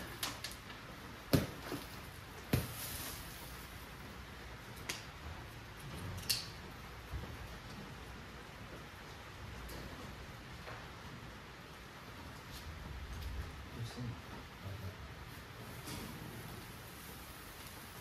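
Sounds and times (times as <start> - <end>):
steady soft hiss: 0.0 - 18.0.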